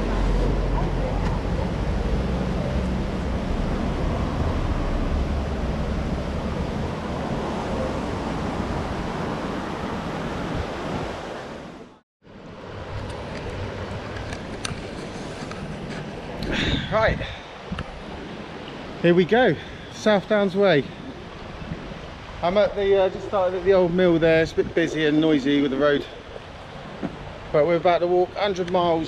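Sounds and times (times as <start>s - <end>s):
road traffic roaring: 0.0s - 29.0s.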